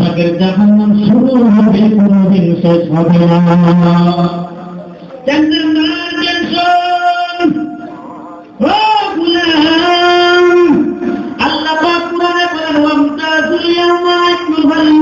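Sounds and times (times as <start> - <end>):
man singing amplified chant: 0.0 - 15.0.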